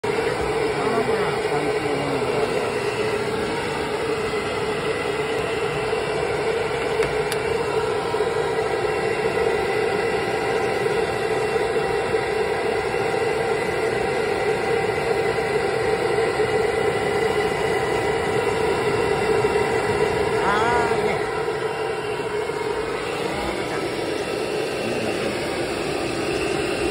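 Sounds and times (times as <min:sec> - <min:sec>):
dryer blowing air: 0:00.0 - 0:26.9.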